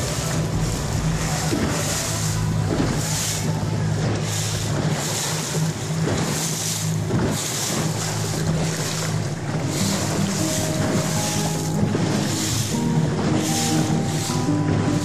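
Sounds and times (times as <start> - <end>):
boat engine humming: 0.0 - 15.0
water splashing against hull: 0.0 - 15.0.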